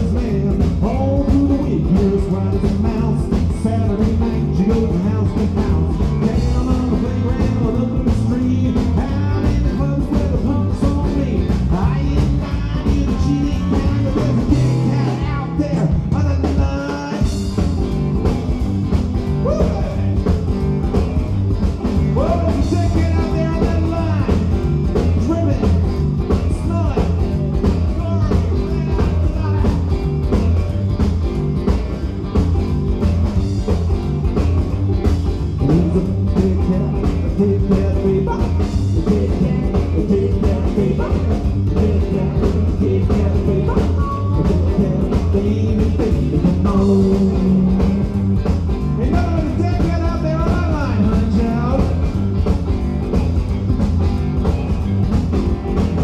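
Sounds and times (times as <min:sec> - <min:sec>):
drums: 0:00.0 - 0:56.0
electric guitar: 0:00.0 - 0:56.0
upright double bass: 0:00.0 - 0:56.0.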